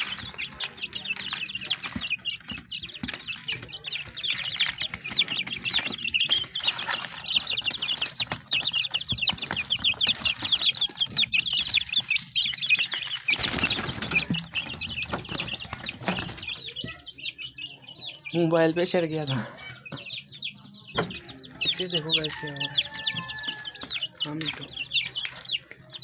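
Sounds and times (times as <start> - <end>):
chicks peeping: 0.0 - 26.0
chicks shuffling and fluttering: 0.0 - 26.0.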